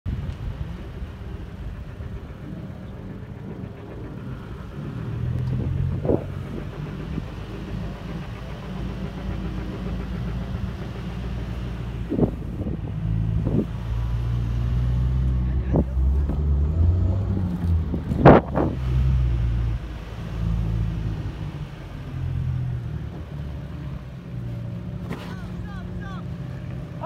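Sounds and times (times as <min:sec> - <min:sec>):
pickup engine rumbling under load: 0:00.1 - 0:27.0.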